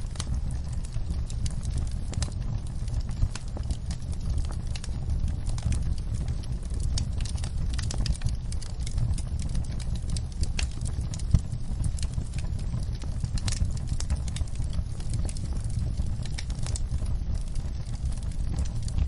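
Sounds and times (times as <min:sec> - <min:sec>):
low rumble of flames: 0:00.0 - 0:19.0
wood crackling and popping: 0:00.0 - 0:19.0.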